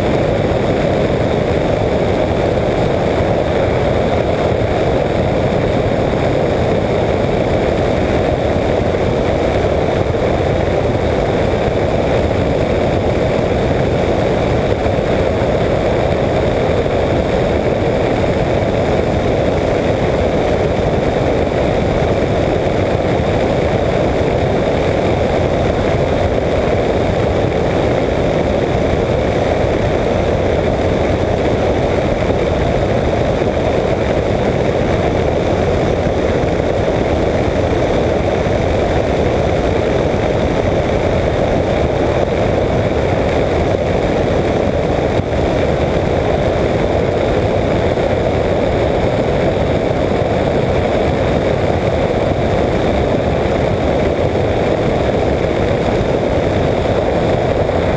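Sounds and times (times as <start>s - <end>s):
aircraft engine and propeller: 0.0s - 57.9s
wind rush: 0.0s - 57.9s.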